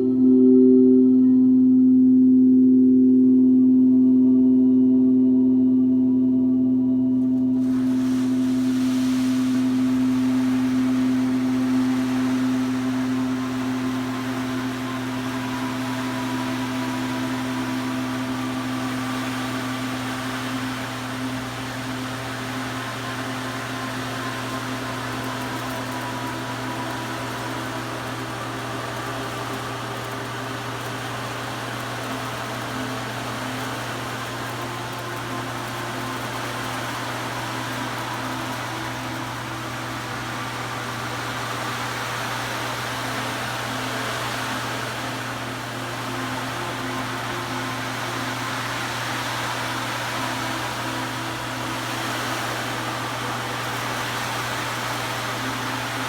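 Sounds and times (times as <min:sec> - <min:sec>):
singing bowl low tone: 0:00.0 - 0:56.0
soft rushing hiss: 0:07.6 - 0:56.0.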